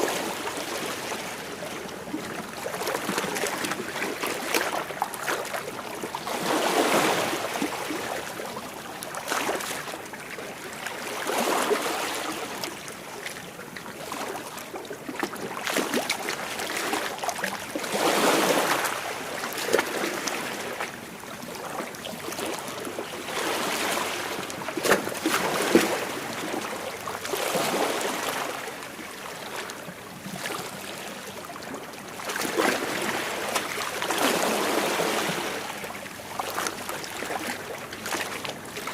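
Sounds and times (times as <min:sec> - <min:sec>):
sea waves breaking against rocks: 0:00.0 - 0:38.9.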